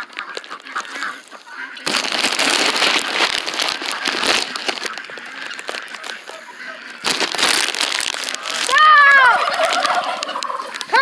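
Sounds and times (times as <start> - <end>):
poultry calling in chorus: 0.0 - 2.3, 3.4 - 11.0.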